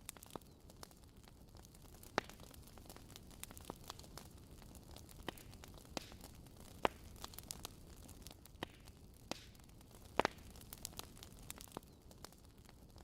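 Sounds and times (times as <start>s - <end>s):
fire popping and snapping: 0.0s - 13.0s.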